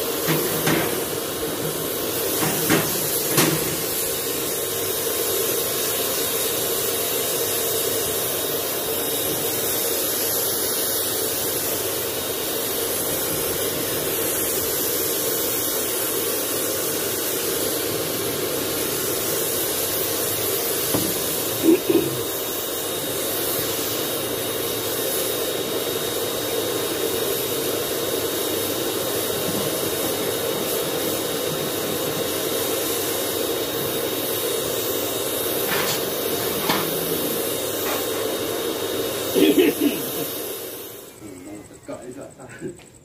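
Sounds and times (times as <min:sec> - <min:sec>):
electric paint spray gun hissing: 0:00.0 - 0:41.9.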